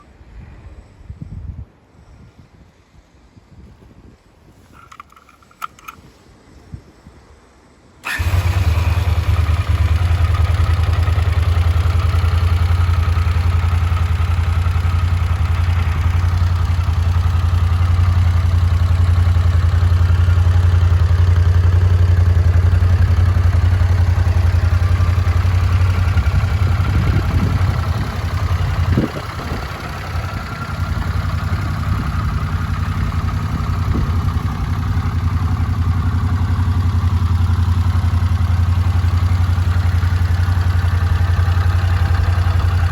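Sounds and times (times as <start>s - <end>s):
motorcycle engine starting and idling: 8.0s - 42.9s.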